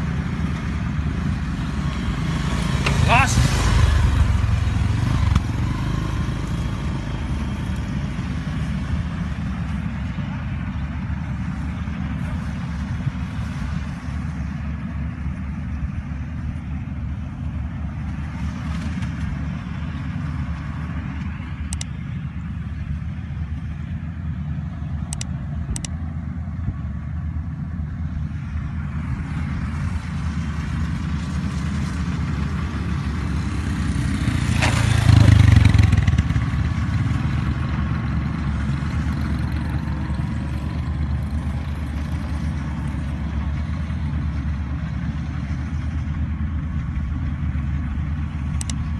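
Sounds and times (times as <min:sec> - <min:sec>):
threshing machine engine droning: 0:00.0 - 0:48.9.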